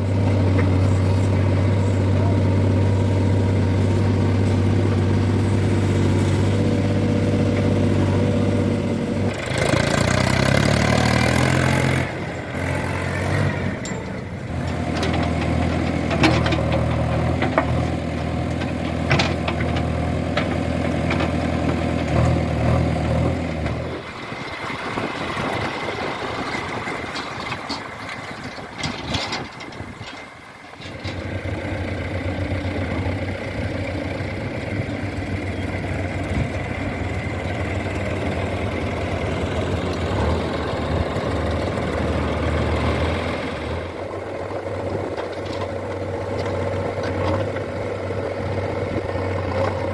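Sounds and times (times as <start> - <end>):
diesel engine running: 0.0 - 49.9
engine knocks and clanks: 0.0 - 49.9.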